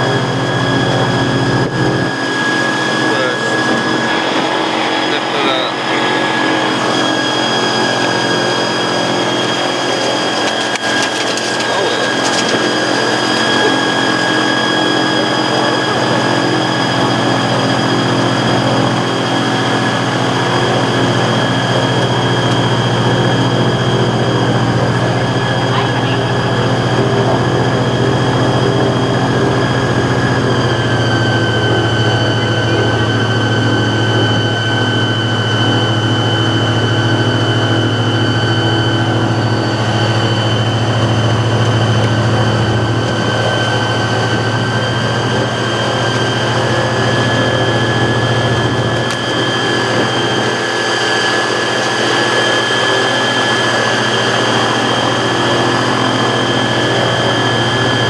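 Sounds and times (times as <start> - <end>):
boat engine running with whine: 0.0 - 58.0.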